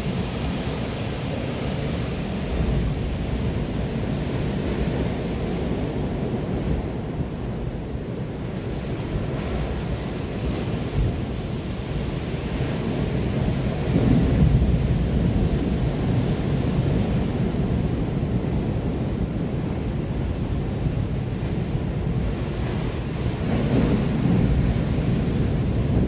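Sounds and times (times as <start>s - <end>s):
sea surf: 0.0s - 26.0s
wind buffeting microphone: 0.0s - 26.0s.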